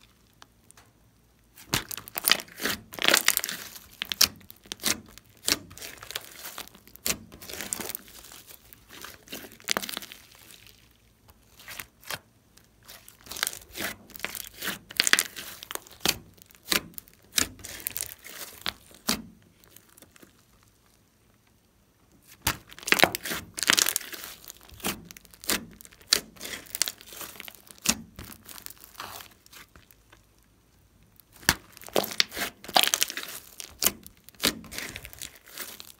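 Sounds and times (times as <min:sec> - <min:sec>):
slime squished by hand: 0:01.5 - 0:21.0, 0:22.2 - 0:30.4, 0:31.1 - 0:35.9.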